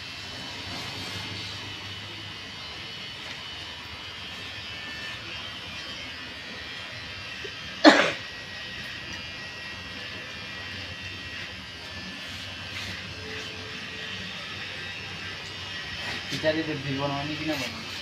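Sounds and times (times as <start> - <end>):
hair clippers buzzing: 0.0 - 18.0.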